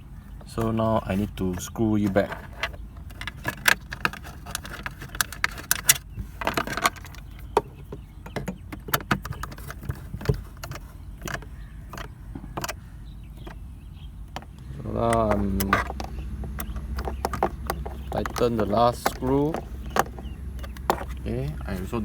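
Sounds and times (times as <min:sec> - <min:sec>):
screwdriver and screws clicking on plastic: 0:00.4 - 0:13.6, 0:14.3 - 0:22.0.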